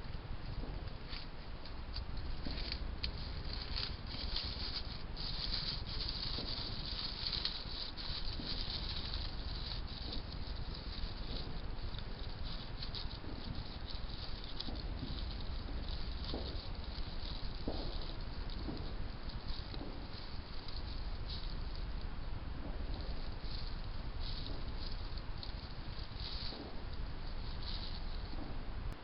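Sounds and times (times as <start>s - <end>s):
hedgehog rustling dry material: 0.0s - 29.0s.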